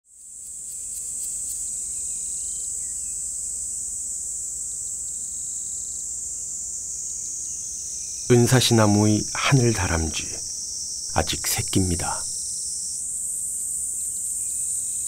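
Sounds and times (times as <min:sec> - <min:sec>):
insects trilling: 0:00.2 - 0:15.0.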